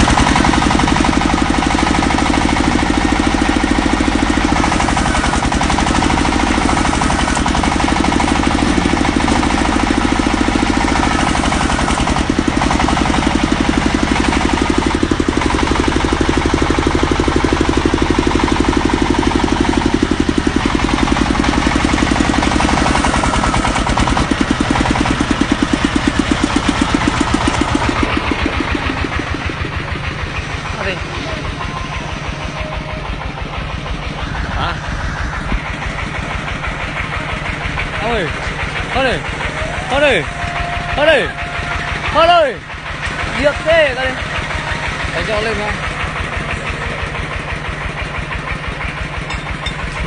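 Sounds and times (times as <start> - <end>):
drilling machine engine pulsing: 0.0 - 50.0.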